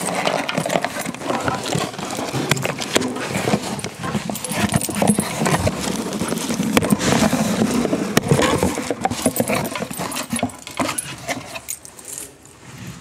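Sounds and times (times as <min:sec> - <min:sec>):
cardboard box rustling: 0:00.0 - 0:11.8.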